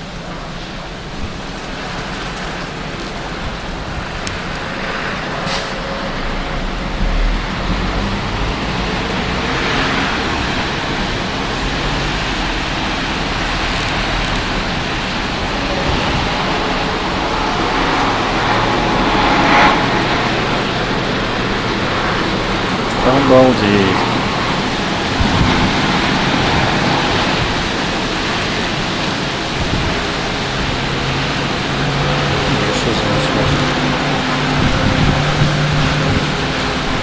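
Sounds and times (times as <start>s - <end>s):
blizzard wind rushing: 0.0s - 37.0s
wind gusts buffeting microphone: 0.0s - 37.0s.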